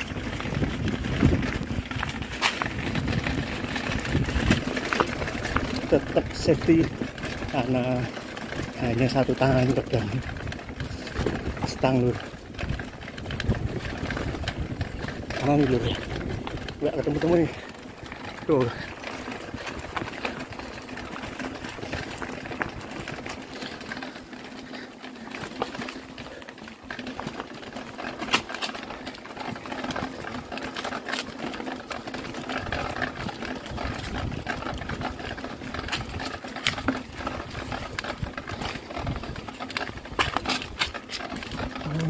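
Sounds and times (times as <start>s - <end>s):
bicycle freewheel ticking: 0.0s - 42.0s
bike rattling on rough ground: 0.0s - 42.0s.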